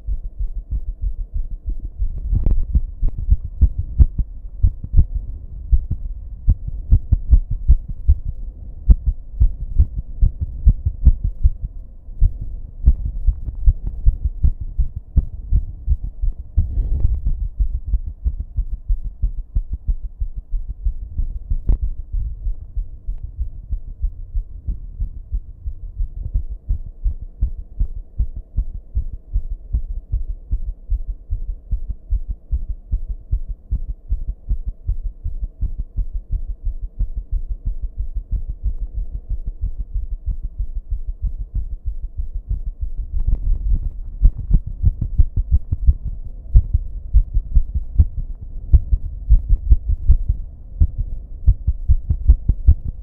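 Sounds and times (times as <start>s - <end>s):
rapid heartbeat thuds: 0.0s - 53.0s.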